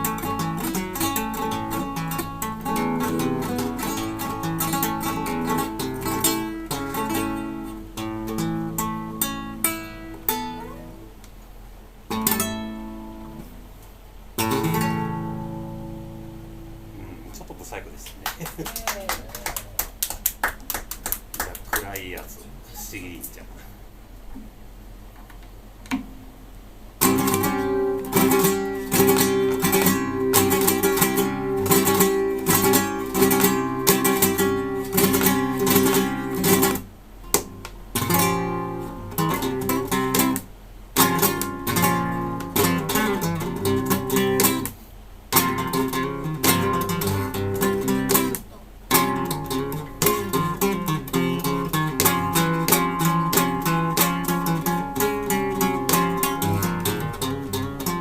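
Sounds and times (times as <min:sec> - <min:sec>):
fingerstyle acoustic guitar: 0:00.0 - 0:11.2, 0:12.1 - 0:13.7, 0:14.4 - 0:17.4, 0:27.0 - 0:58.0.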